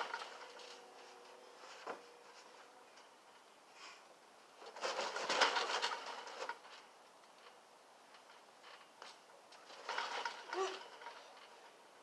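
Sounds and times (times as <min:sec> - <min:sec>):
trampoline clattering: 0:00.0 - 0:03.5, 0:04.5 - 0:12.0.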